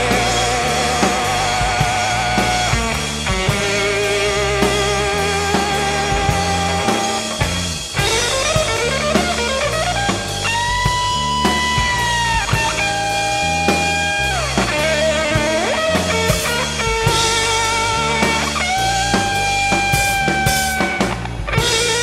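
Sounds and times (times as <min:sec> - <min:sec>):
bass guitar: 0:00.0 - 0:22.0
drum kit: 0:00.0 - 0:22.0
electric guitar with slides and vibrato: 0:00.0 - 0:22.0.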